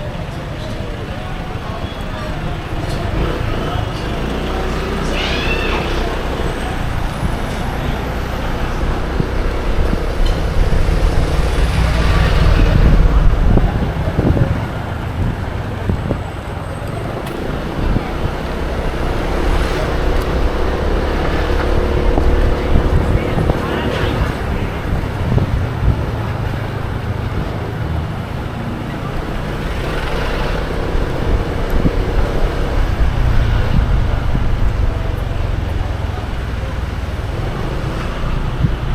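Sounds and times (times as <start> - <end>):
motorbike engine rumble: 0.0 - 38.9
wind rumble: 2.3 - 38.9.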